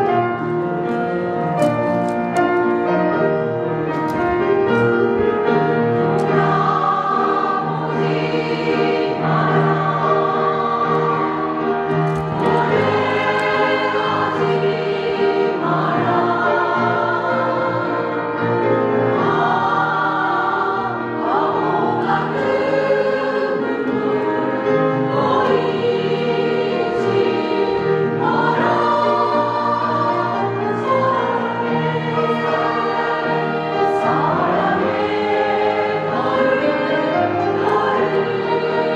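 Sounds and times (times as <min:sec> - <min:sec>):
women singing in harmony: 0:06.1 - 0:38.9.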